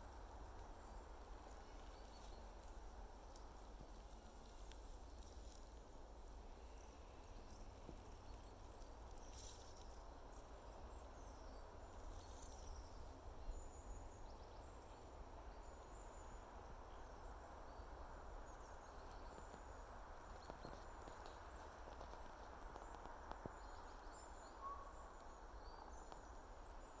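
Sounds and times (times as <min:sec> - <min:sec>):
soft hiss: 0:00.0 - 0:27.0.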